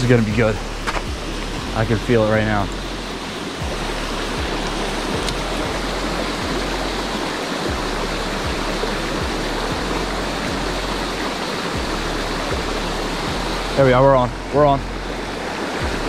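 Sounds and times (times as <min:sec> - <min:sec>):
river water flowing: 0:00.0 - 0:16.0
small waterfall spilling into pool: 0:00.0 - 0:16.0.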